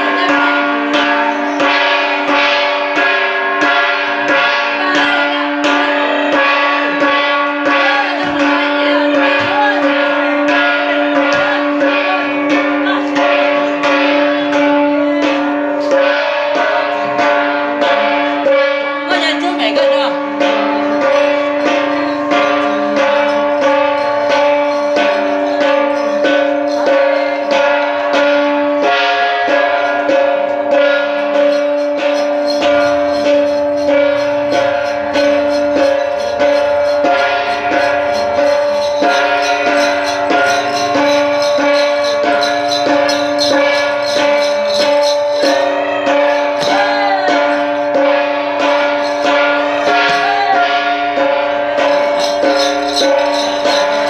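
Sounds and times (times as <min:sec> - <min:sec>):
hand gong beaten fast: 0:00.0 - 0:54.0.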